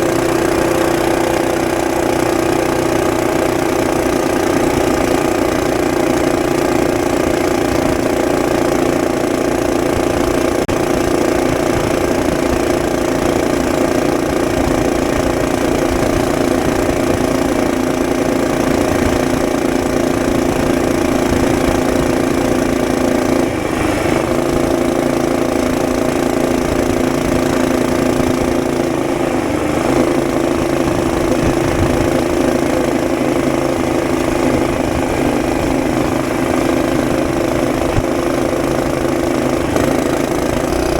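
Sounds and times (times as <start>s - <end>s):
small engine running steadily: 0.0s - 40.9s.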